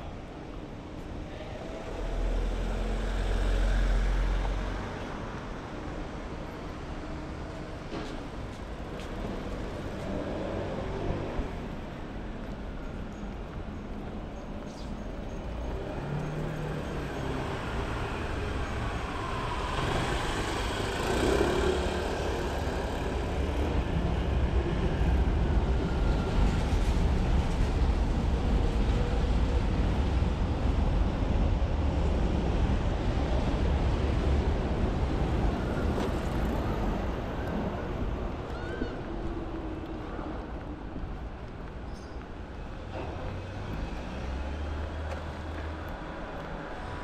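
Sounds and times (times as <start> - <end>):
deep traffic rumble: 0.0 - 47.0
vehicles passing on street: 0.0 - 47.0.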